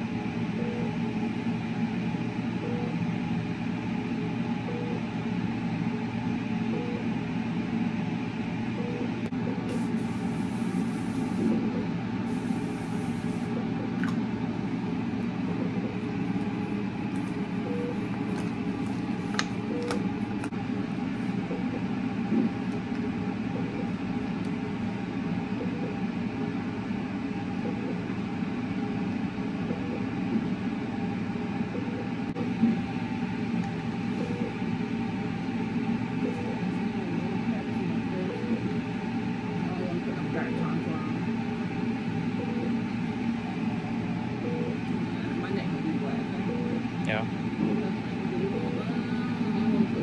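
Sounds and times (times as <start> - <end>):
room noise hum and hiss: 0.0 - 50.0.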